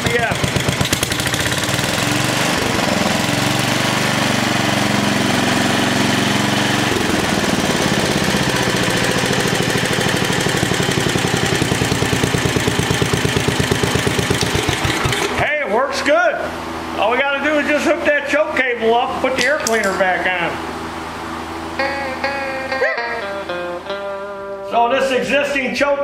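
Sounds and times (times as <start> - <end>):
single-cylinder engine running: 0.0 - 22.7.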